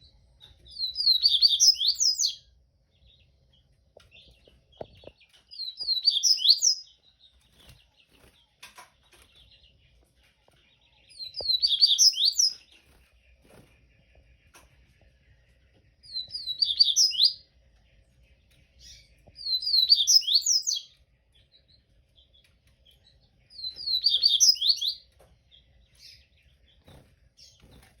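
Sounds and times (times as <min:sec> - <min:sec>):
bird chirping song: 0:00.0 - 0:28.0.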